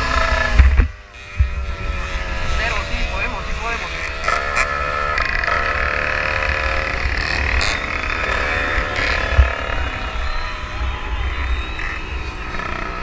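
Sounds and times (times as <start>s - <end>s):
motorcycle engine revving: 0.0s - 13.0s
wind rumbling on microphone: 0.0s - 13.0s.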